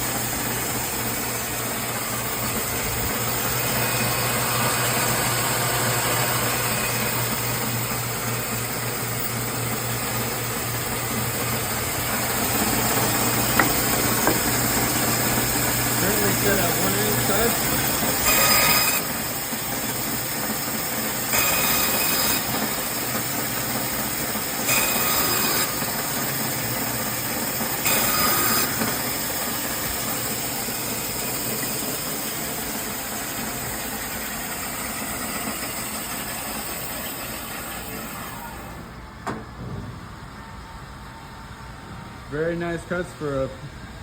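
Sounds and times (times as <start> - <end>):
saw blade whining while cutting: 0.0 - 38.9
band saw whirring hum: 0.0 - 44.0.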